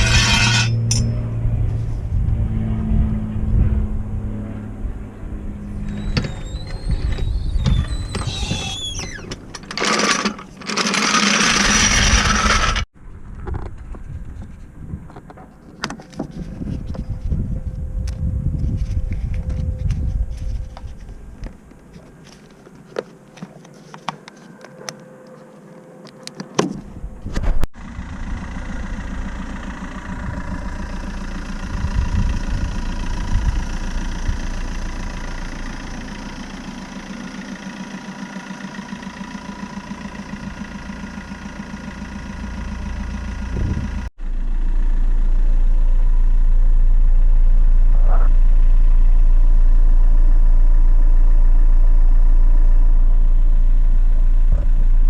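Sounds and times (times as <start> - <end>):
diesel engine running: 0.0 - 23.6, 26.8 - 55.0.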